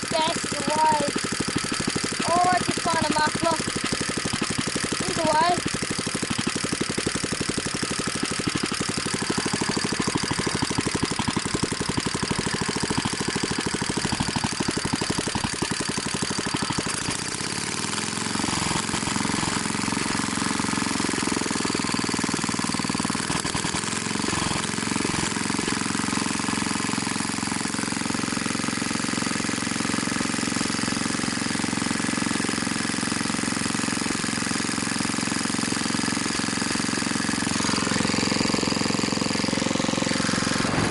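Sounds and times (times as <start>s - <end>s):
stationary engine running: 0.0s - 40.9s.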